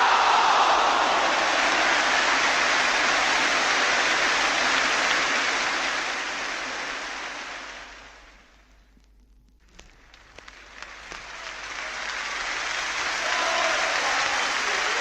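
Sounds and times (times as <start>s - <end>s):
stadium crowd noise: 0.0s - 8.5s, 10.2s - 15.0s.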